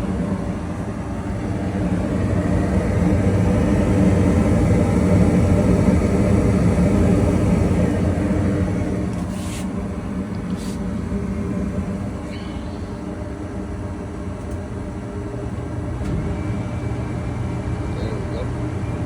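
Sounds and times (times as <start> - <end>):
gas furnace humming: 0.0 - 19.0.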